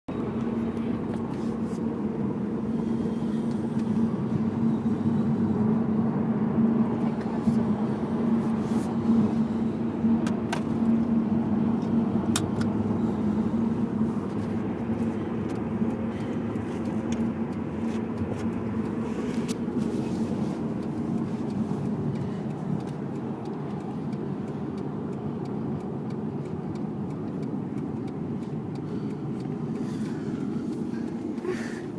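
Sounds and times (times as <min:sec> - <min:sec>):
road and engine rumble inside car: 0:00.1 - 0:31.9.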